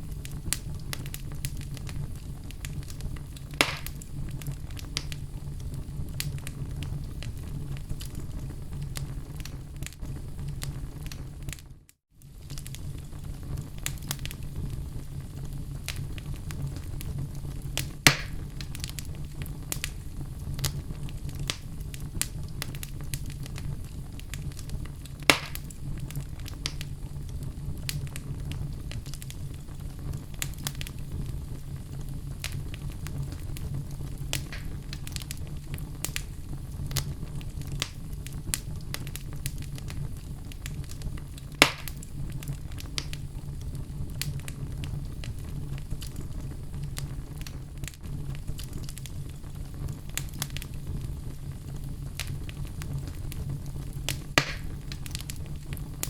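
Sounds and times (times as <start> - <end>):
fire crackles: 0.0 - 56.0
fire flames rumbling: 0.0 - 56.0
sharp pops from burning logs: 0.1 - 10.0, 12.2 - 14.7, 15.8 - 20.0, 20.6 - 56.0.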